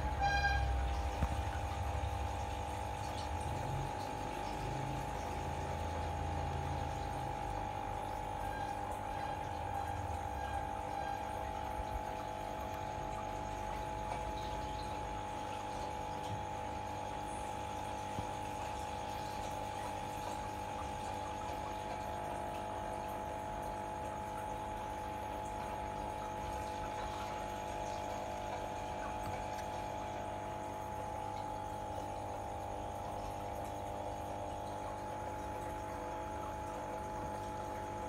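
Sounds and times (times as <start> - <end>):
faint water sound: 0.0 - 38.0.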